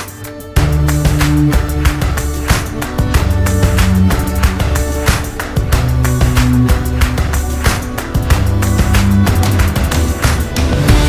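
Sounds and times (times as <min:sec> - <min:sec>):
music with guitar and bass: 0:00.0 - 0:11.0.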